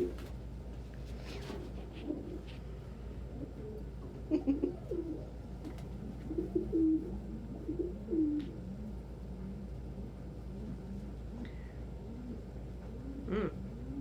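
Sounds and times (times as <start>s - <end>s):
pigeons cooing: 0.0s - 0.3s, 1.3s - 14.0s.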